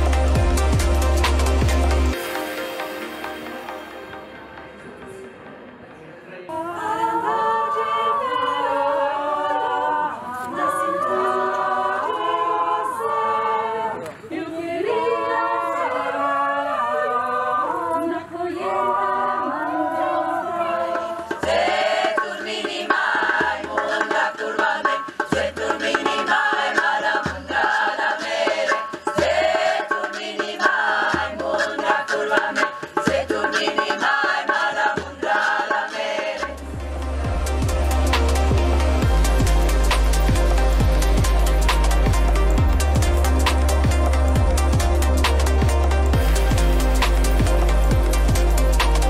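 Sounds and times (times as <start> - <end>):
mixed choir singing: 6.5 - 49.0.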